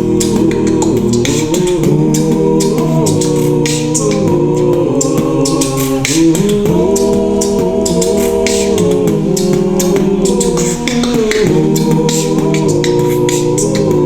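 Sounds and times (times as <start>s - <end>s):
sharp percussive clicks: 0.0s - 14.0s
vocal group singing in harmony: 0.0s - 14.0s.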